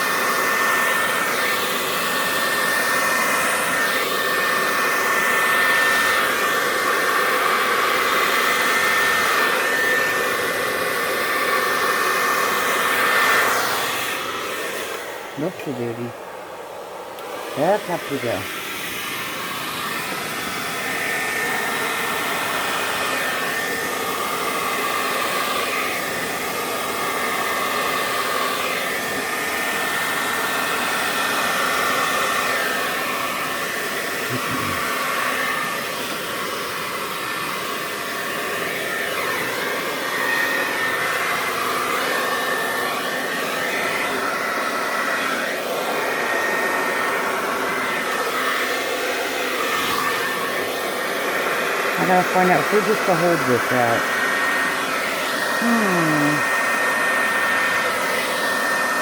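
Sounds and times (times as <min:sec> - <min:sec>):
blow-dryer running: 0:00.0 - 0:59.0.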